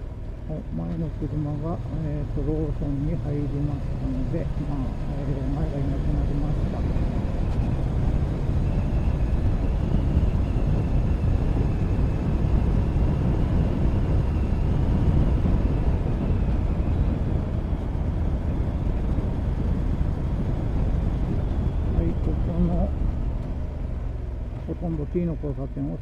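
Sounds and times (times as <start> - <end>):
wind noise on microphone: 0.0 - 24.1
motorcycle engine running: 0.0 - 25.8.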